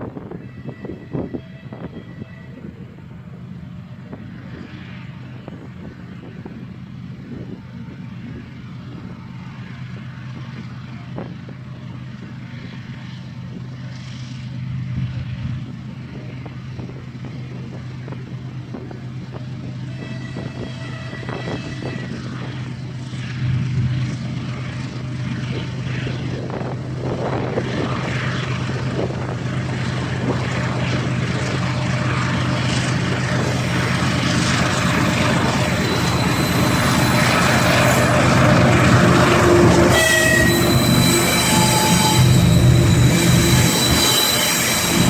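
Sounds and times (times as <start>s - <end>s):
locomotive engines droning: 0.0s - 45.0s
train rumbling: 0.0s - 45.0s.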